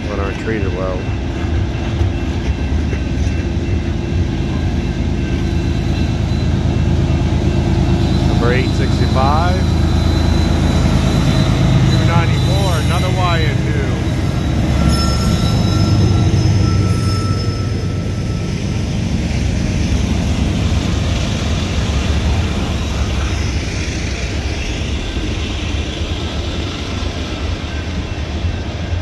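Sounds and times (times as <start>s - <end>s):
diesel locomotive passing: 0.0s - 29.0s
train wheels rumbling on rails: 0.0s - 29.0s.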